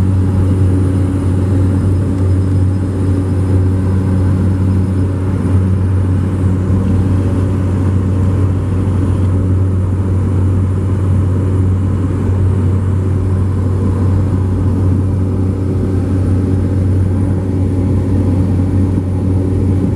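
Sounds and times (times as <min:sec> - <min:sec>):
airplane engine drone: 0:00.0 - 0:19.9.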